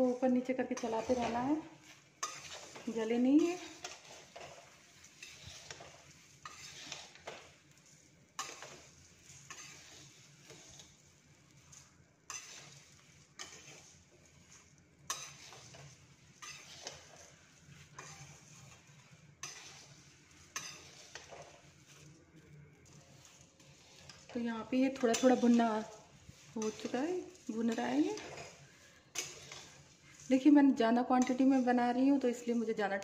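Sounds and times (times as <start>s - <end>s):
faint sizzle in oil: 0.0s - 33.0s
metal spatula scraping a pan: 0.0s - 33.0s.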